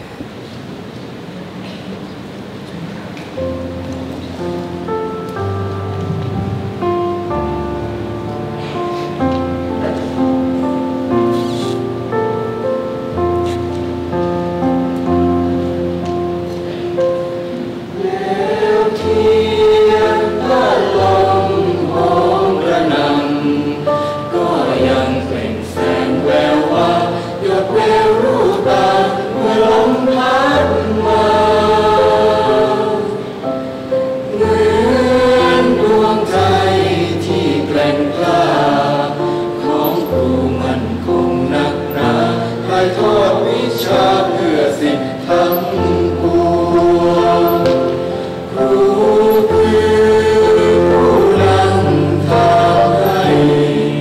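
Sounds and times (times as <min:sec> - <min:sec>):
mixed choir singing slow song: 0:03.4 - 0:54.0.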